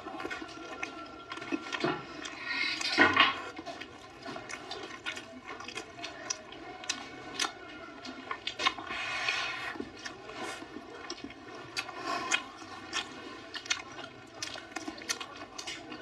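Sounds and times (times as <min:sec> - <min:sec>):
wet chewing and lip smacking: 0:00.0 - 0:16.0.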